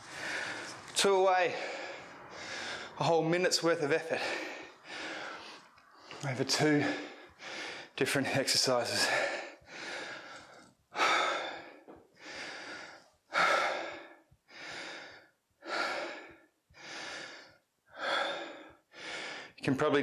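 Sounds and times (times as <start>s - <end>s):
man breathing hard: 0.0s - 3.2s, 3.8s - 8.0s, 8.6s - 19.6s.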